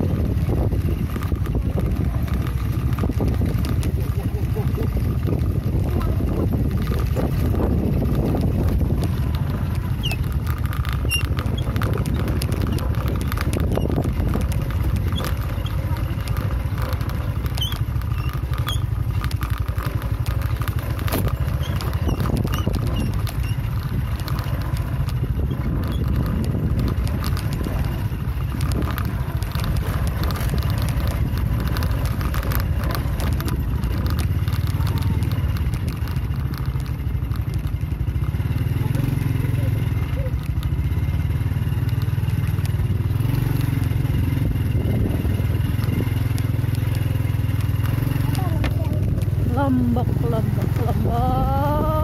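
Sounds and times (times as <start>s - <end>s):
gravel clattering: 0.0s - 52.0s
motorcycle engine: 0.0s - 52.0s.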